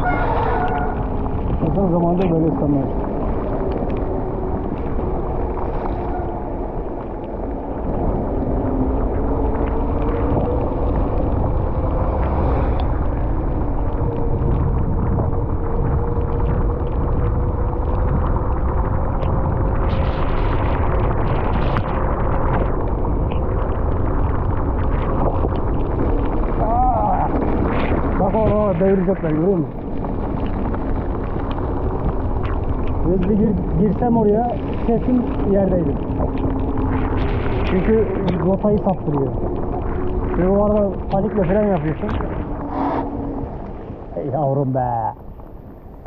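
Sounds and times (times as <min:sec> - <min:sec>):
bike tyres humming on road: 0:00.0 - 0:46.0
wind buffeting microphone: 0:00.0 - 0:46.0.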